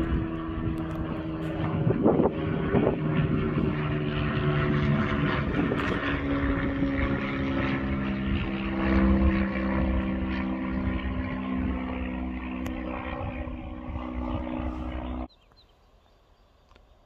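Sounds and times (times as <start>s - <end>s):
diesel locomotive engine droning: 0.0s - 15.3s.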